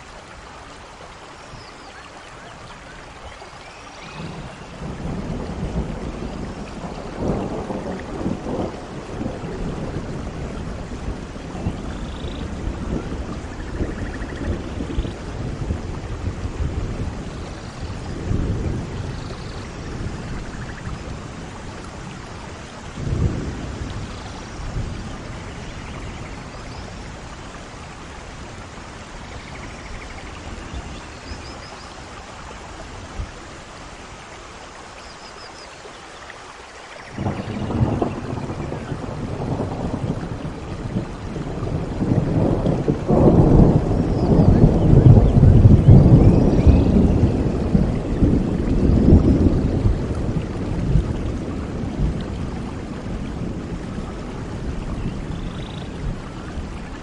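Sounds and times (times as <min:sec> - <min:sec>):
steady rain: 0:00.0 - 0:57.0
rolling thunder: 0:04.0 - 0:31.7, 0:37.1 - 0:57.0.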